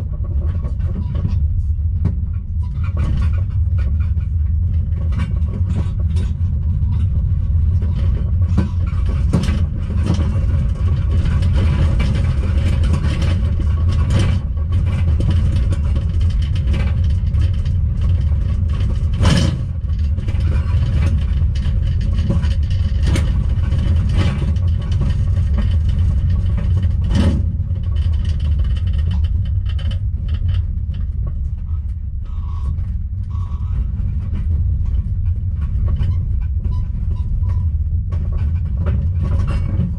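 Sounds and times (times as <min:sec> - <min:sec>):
low rumble of moving caravan: 0:00.0 - 0:39.9
sharp knocks and rattles: 0:00.0 - 0:39.9.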